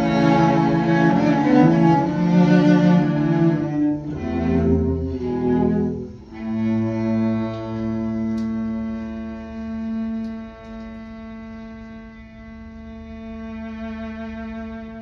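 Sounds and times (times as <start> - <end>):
bowed cello: 0.0 - 15.0.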